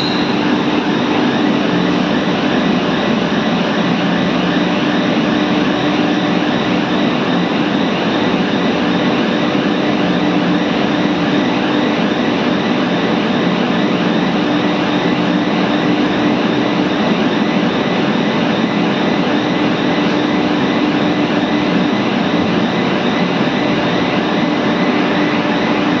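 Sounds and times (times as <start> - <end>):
furnace machinery roaring: 0.0 - 26.0.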